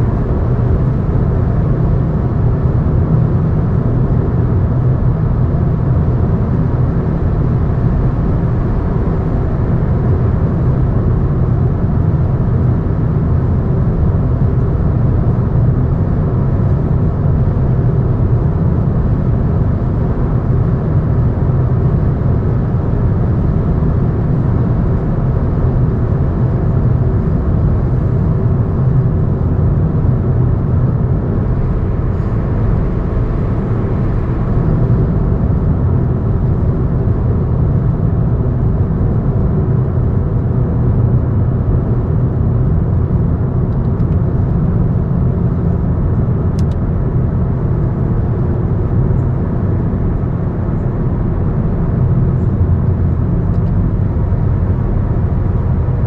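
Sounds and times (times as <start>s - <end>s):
moving vehicle road noise: 0.0s - 56.0s.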